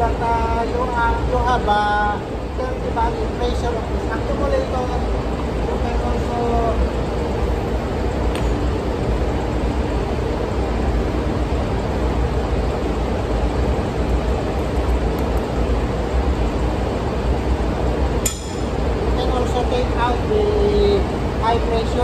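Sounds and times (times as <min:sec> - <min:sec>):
engine-room machinery drone: 0:00.0 - 0:22.0.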